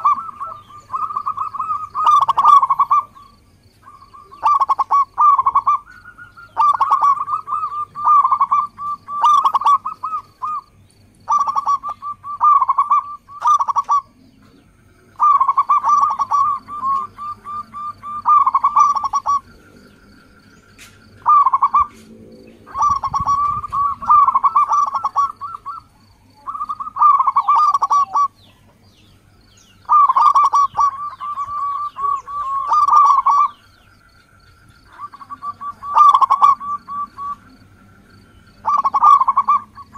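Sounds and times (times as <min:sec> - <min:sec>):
dove trilling coos: 0:00.0 - 0:39.9.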